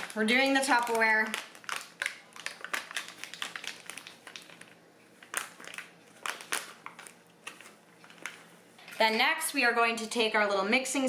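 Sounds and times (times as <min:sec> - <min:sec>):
foil pouch crinkling: 0:00.0 - 0:09.2.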